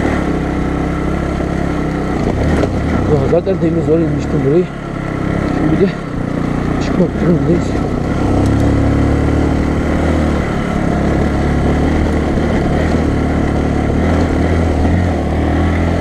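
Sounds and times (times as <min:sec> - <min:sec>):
motorcycle engine running under load: 0:00.0 - 0:16.0.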